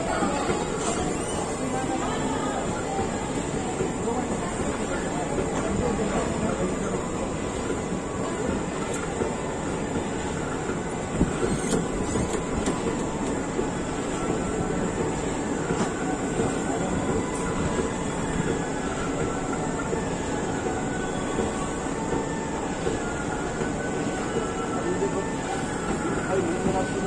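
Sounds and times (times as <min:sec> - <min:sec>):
train wheels rumbling and rattling: 0:00.0 - 0:27.0.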